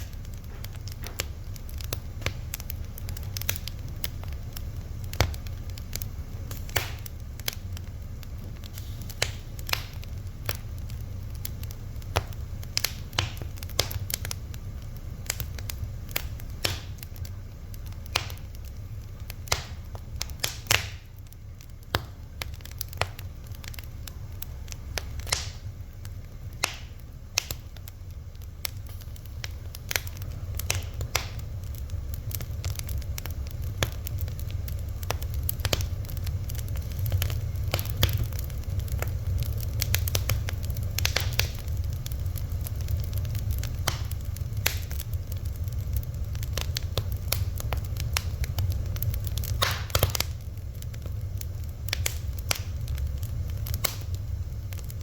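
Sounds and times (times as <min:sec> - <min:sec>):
low rumble of burning: 0:00.0 - 0:55.0
wood fire crackling: 0:00.0 - 0:55.0.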